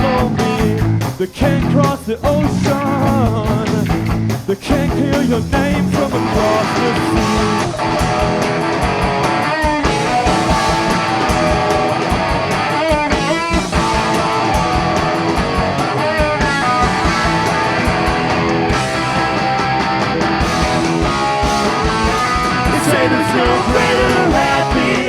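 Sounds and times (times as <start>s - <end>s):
bass guitar: 0.0s - 25.0s
distorted electric guitars: 0.0s - 25.0s
drums with steady beat: 0.0s - 25.0s.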